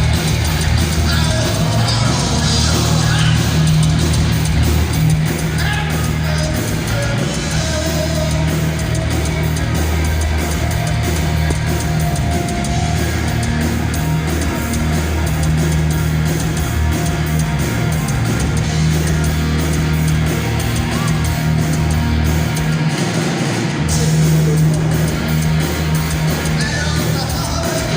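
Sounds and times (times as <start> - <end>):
heavy metal band playing live: 0.0 - 27.9.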